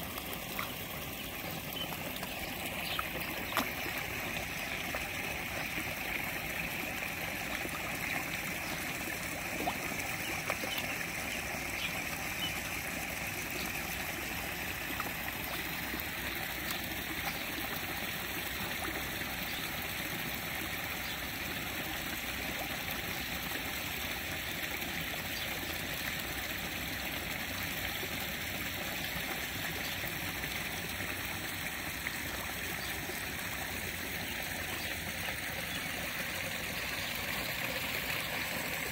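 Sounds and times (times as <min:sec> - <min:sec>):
water trickling in a pond: 0:00.0 - 0:38.9.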